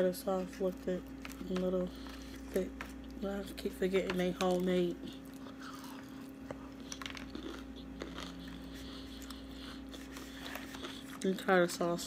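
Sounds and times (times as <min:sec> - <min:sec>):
steady low hum: 0:00.0 - 0:12.0
person chewing crunchy food: 0:00.3 - 0:11.5.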